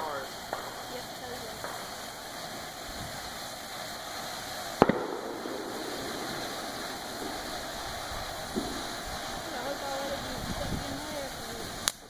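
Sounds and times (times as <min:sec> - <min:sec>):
firework bang: 0:00.0 - 0:12.0
steady background hiss: 0:00.0 - 0:12.0.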